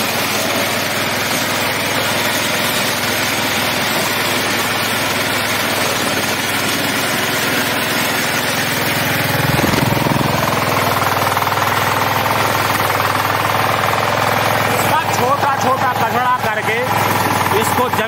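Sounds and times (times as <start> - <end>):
cutters cutting stalks: 0.0 - 18.0
harvester engine running: 0.0 - 18.0.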